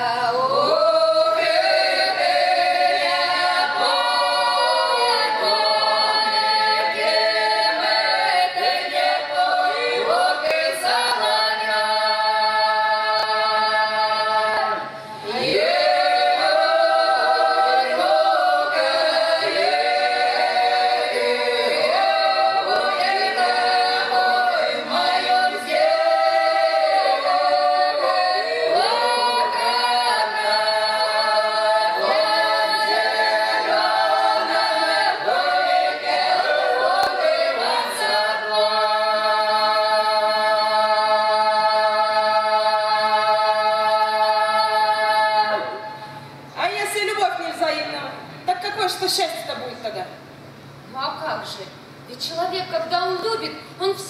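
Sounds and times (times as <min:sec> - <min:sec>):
women singing a cappella: 0:00.0 - 0:46.7.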